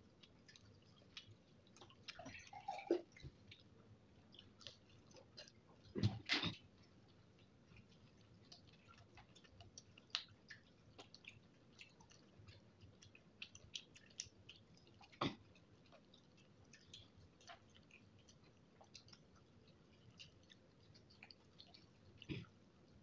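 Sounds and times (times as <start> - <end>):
person chewing food: 0.0 - 23.0
wet mouth clicks and smacks: 0.2 - 3.7, 7.4 - 23.0.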